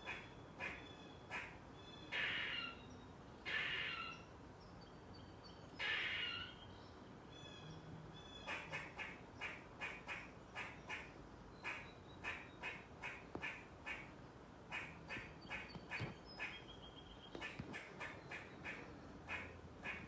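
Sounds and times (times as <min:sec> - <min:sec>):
squirrel chirring calls: 0:00.0 - 0:04.3, 0:05.7 - 0:06.7, 0:07.3 - 0:14.1, 0:14.7 - 0:20.0.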